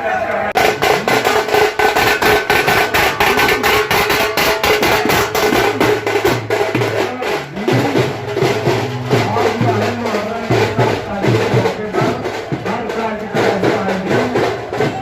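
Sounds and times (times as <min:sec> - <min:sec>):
rapid steady drumming: 0:00.6 - 0:15.0.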